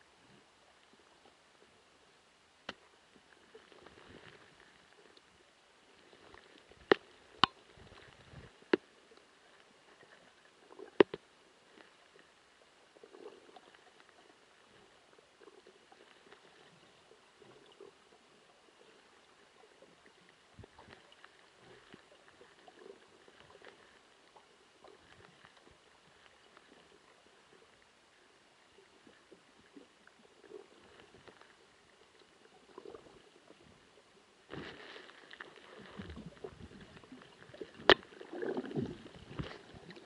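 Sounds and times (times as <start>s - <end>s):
muffled underwater hiss: 0.0s - 40.0s.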